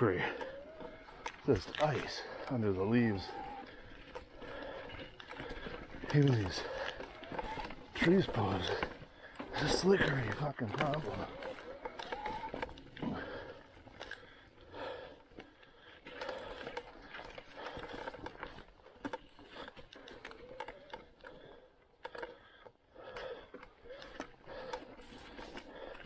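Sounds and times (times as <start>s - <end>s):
bike tyres crackling over leaves: 0.0s - 22.5s.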